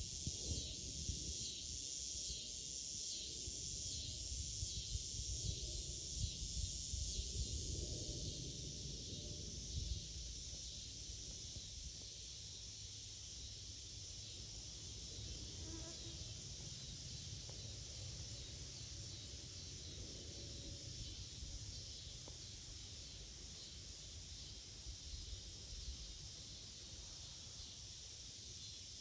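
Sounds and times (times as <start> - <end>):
insect chorus: 0.0 - 29.0.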